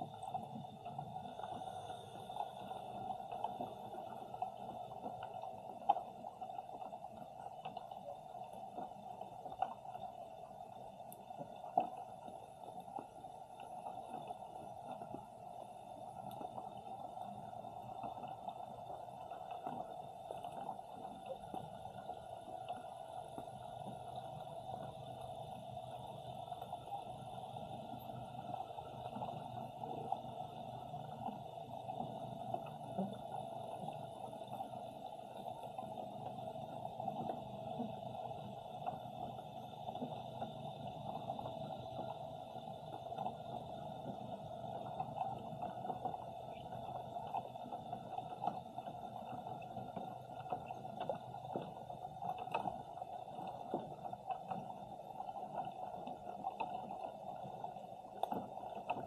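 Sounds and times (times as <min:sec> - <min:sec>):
faint underwater clicks: 0:00.0 - 0:59.0
steady underwater hum: 0:00.0 - 0:59.0.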